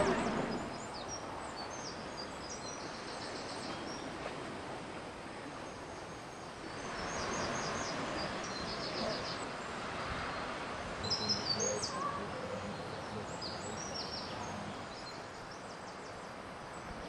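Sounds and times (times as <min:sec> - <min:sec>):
small birds chirping: 0:00.0 - 0:04.2, 0:05.6 - 0:17.0
outdoor background hiss: 0:00.0 - 0:17.0.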